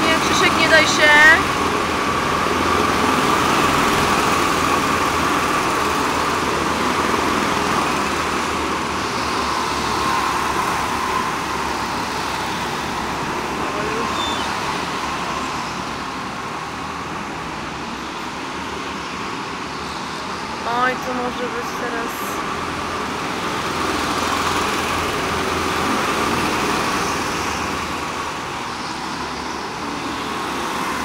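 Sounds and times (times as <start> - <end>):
go-kart engines racing: 0.0 - 31.0.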